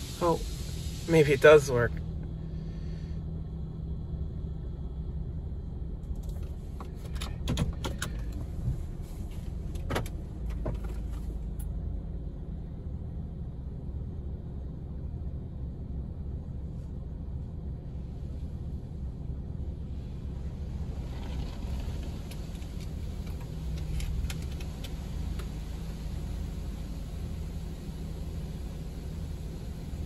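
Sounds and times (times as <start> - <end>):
low rumble in car wash: 0.0 - 30.0.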